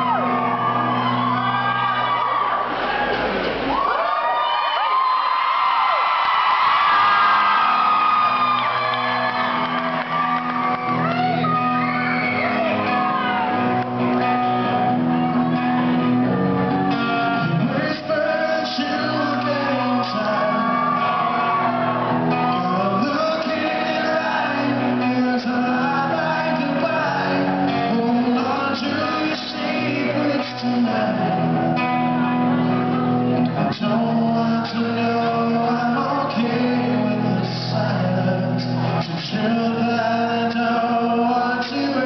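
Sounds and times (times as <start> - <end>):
live rock music: 0.0 - 3.8, 6.6 - 42.0
fans screaming and whooping: 0.0 - 33.8.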